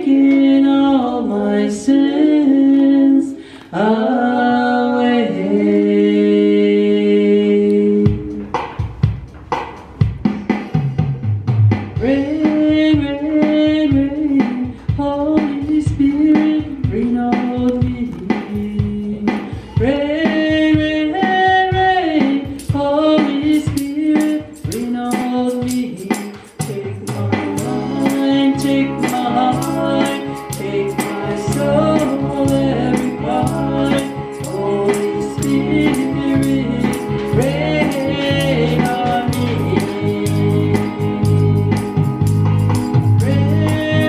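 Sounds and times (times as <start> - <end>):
woman singing a hymn: 0.0 - 8.4, 12.0 - 41.9
tambourine-like percussive beat: 8.1 - 44.0.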